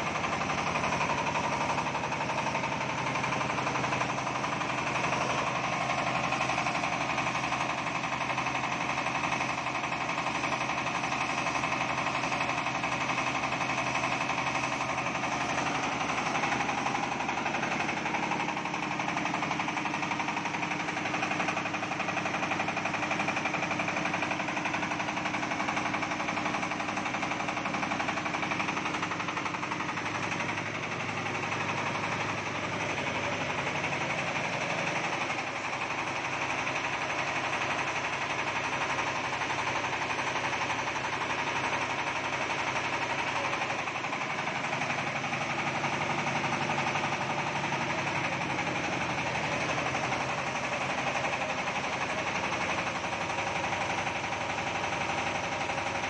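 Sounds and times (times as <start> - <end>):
diesel engine clattering: 0.0 - 56.0.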